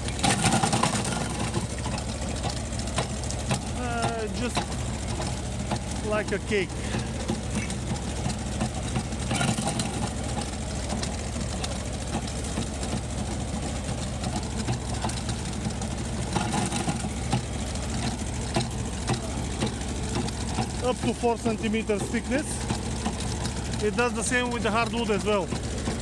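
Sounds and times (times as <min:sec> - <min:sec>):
tractor diesel engine running: 0:00.0 - 0:26.0
wood shredder crunching branches: 0:00.0 - 0:26.0.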